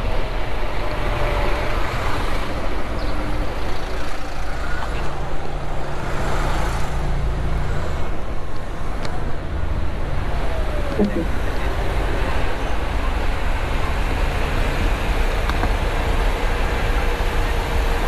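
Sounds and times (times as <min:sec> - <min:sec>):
road noise: 0:00.0 - 0:18.0
wind: 0:00.0 - 0:18.0
idling engines rumbling: 0:01.9 - 0:18.0.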